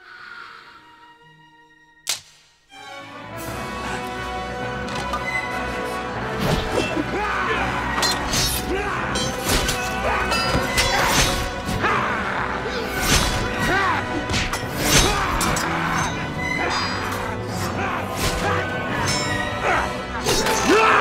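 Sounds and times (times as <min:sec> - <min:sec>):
dramatic film score: 0:00.0 - 0:21.0.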